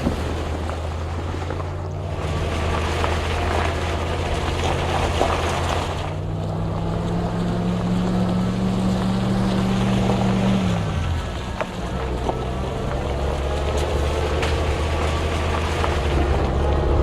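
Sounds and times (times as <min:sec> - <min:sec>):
motorboat engine: 0:00.0 - 0:17.0
rushing water and wind: 0:00.0 - 0:17.0.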